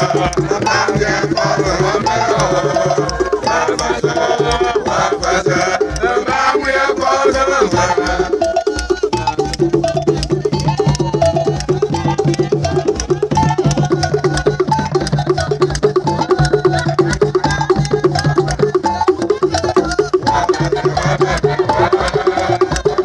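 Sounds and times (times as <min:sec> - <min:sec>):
choir singing: 0:00.0 - 0:23.0
fast hand percussion: 0:00.0 - 0:23.0
wood-block-like clicks: 0:00.0 - 0:23.0.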